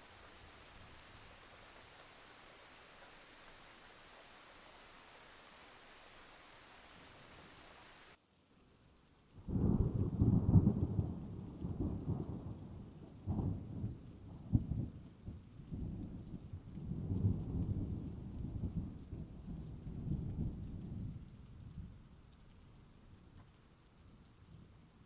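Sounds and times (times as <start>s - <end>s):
faint rain: 0.0s - 25.0s.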